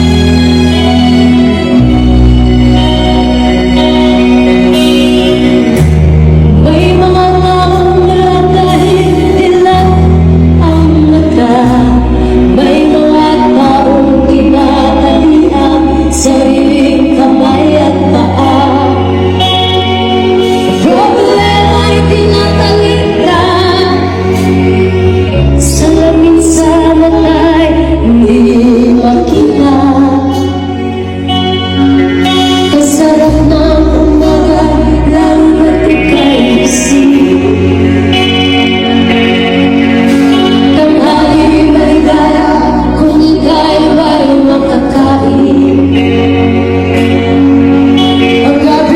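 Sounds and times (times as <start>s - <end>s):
keyboard or guitar chords: 0.0s - 48.9s
loud live band: 0.0s - 48.9s
sustained bass: 0.0s - 48.9s
woman singing wavering notes: 6.5s - 39.3s, 40.4s - 46.8s, 48.0s - 48.9s.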